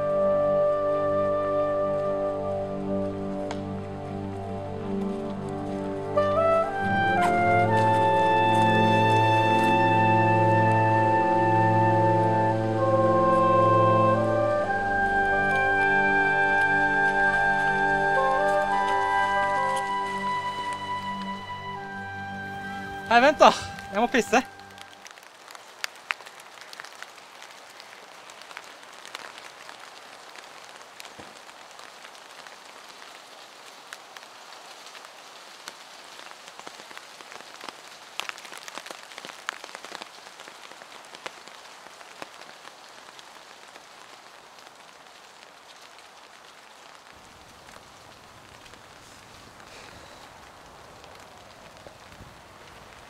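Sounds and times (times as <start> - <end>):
small crackles: 3.3 - 11.2, 14.6 - 21.7, 22.4 - 53.0.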